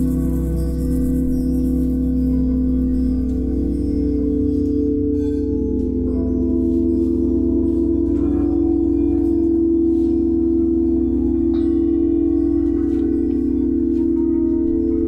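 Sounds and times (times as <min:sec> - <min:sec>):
singing bowls and gongs ringing: 0:00.0 - 0:15.0.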